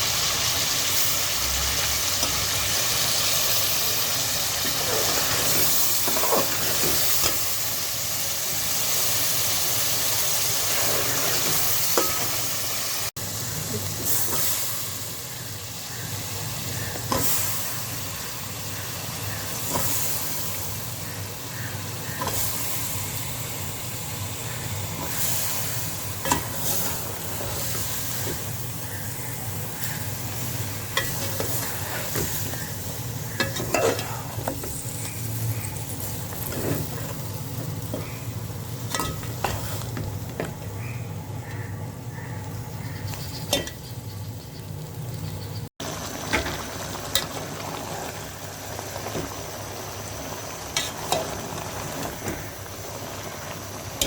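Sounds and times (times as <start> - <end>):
food sizzling in a pot: 0.0 - 40.9, 42.8 - 54.0.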